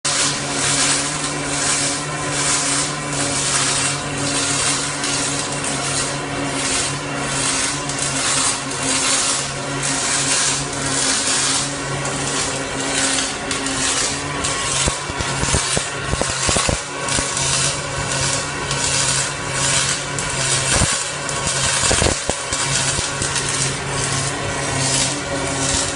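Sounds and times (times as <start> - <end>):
welding arc crackling hiss: 0.1 - 25.9.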